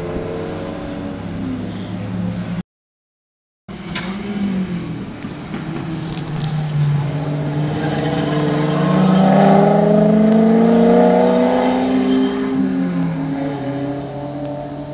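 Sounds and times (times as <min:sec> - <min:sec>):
race car engines at full throttle: 0:00.0 - 0:02.6, 0:03.7 - 0:14.9.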